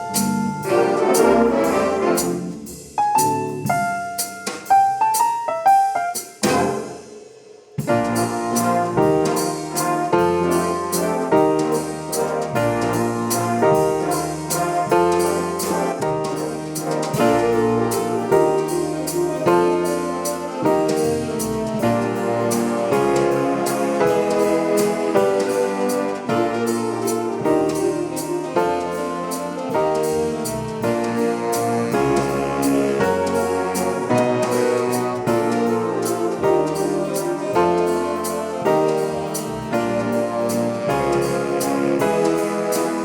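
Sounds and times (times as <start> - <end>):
cymbal beat: 0.0 - 43.0
swing band playing jazz: 0.0 - 43.0.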